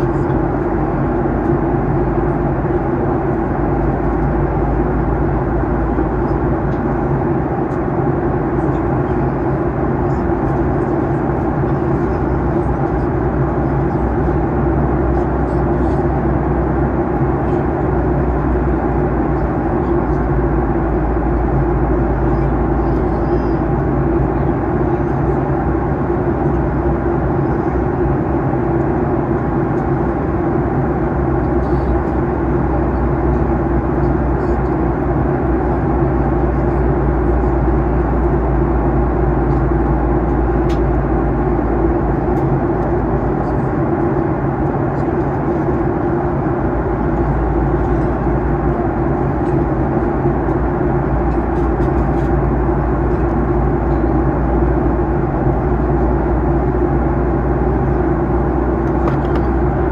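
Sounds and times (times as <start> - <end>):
jet engines humming: 0.0 - 59.9.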